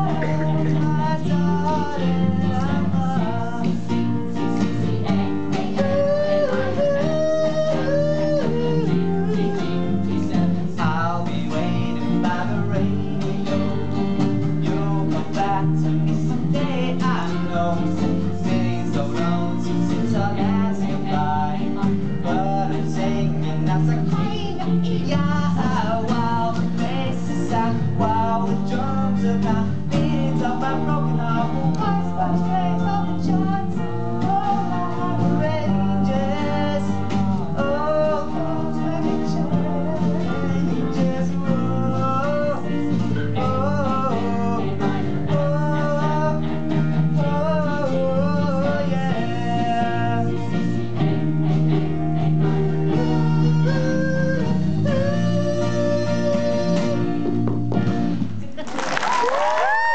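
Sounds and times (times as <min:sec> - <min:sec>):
doo-wop ballad singing: 0:00.0 - 0:58.3
strummed guitar and band: 0:00.0 - 0:59.9.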